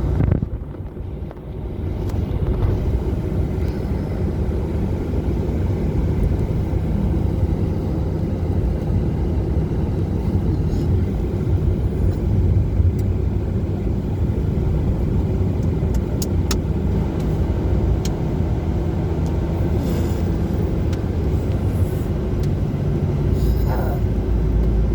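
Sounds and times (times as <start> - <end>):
car engine and tyre rumble: 0.0 - 24.9.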